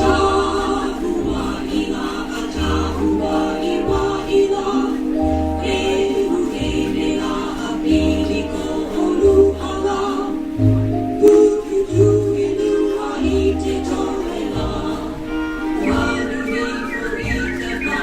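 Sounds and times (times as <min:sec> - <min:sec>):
chorus singing luau-style song: 0:00.0 - 0:18.0
pulsing bass line: 0:00.0 - 0:18.0.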